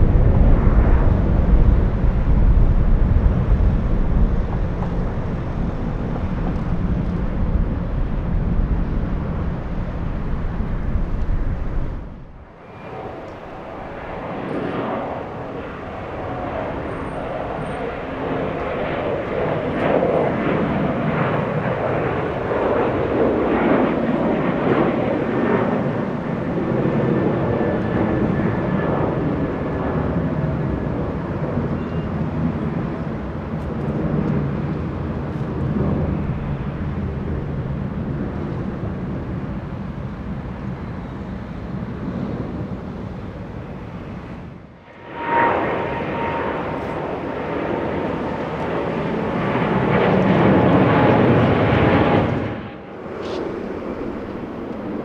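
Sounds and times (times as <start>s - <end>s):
jet engines roaring past: 0.0s - 55.0s.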